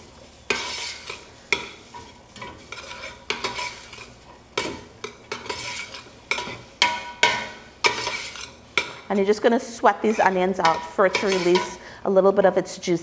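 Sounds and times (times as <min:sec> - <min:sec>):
onion sizzling in oil: 0:00.0 - 0:12.0
spoon scraping metal pot: 0:00.5 - 0:09.2, 0:09.8 - 0:11.8.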